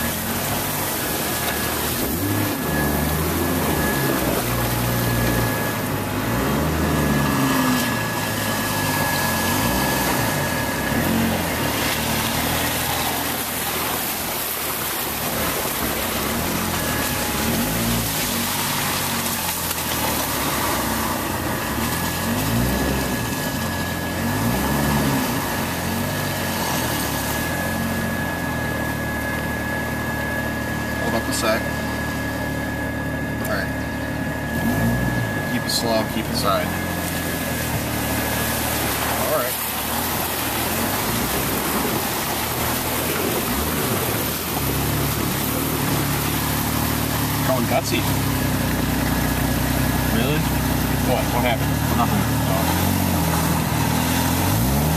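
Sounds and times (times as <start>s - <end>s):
car engine revving: 0.0s - 54.9s
thin steady whine: 0.0s - 54.9s
water splashing around tyres: 0.0s - 54.9s.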